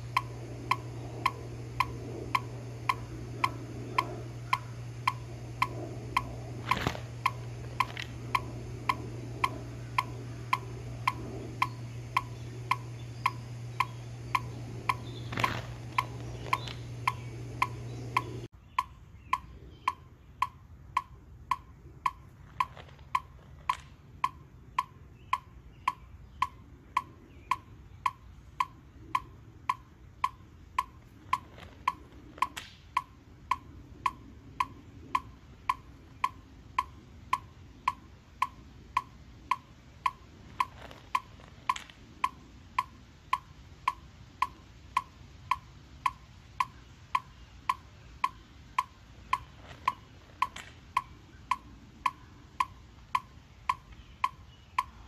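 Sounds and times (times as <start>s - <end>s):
metronome clicking: 0.0s - 55.0s.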